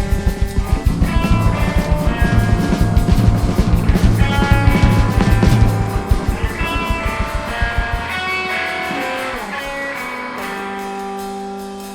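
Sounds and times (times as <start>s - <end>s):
drums pounding fast: 0.0s - 11.9s
electric guitar chords ringing: 0.0s - 11.9s.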